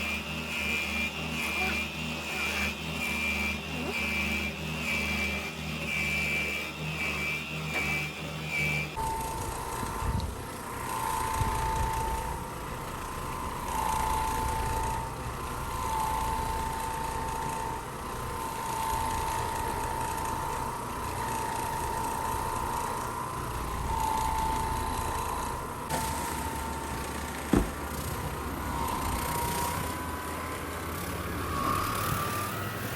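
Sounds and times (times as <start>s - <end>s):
vacuum motor whine: 0.0s - 32.9s.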